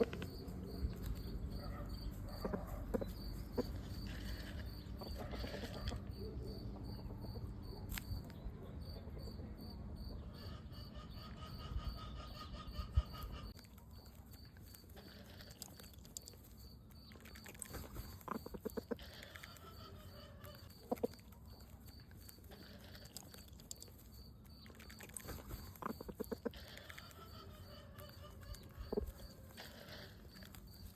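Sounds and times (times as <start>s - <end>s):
insect chirping: 0.0s - 30.9s.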